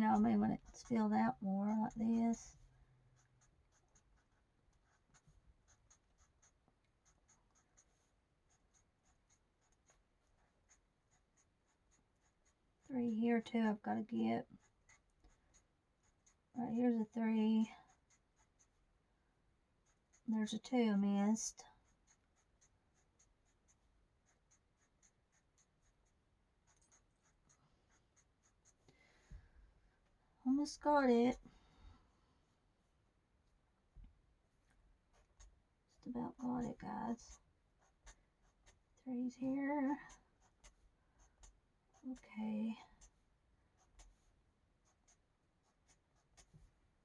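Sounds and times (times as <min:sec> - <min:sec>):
coloring tool scratching on paper: 0:00.0 - 0:18.9, 0:19.7 - 0:28.8, 0:35.1 - 0:46.7.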